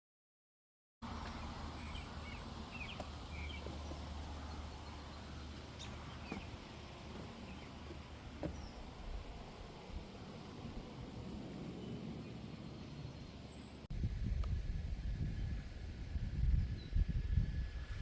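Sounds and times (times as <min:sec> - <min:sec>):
low steady rumble: 0:01.0 - 0:18.0.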